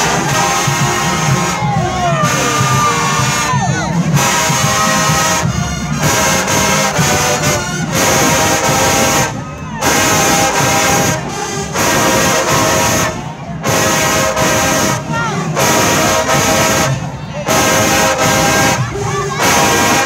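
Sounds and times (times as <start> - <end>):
brass band playing loud chords: 0.0 - 20.0.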